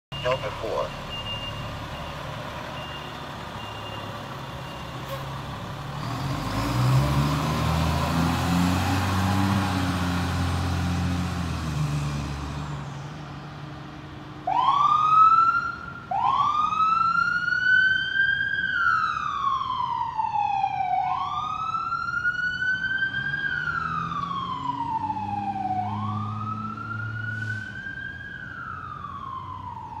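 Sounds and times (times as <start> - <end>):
fire engine siren wailing: 0.2 - 13.2, 14.4 - 30.0.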